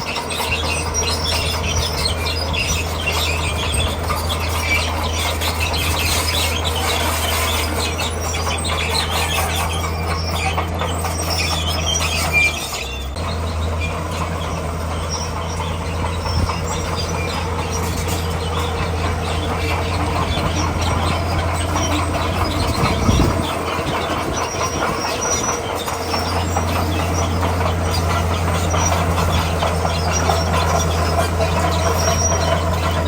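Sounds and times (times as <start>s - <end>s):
bulldozer diesel engine: 0.0s - 33.0s
steel tracks squealing and clanking: 0.0s - 33.0s.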